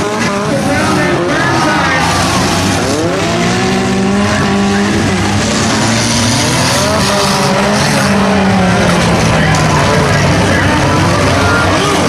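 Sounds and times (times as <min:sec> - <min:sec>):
race car engine revving: 0:00.0 - 0:12.0
race car engines and track noise: 0:00.0 - 0:12.0.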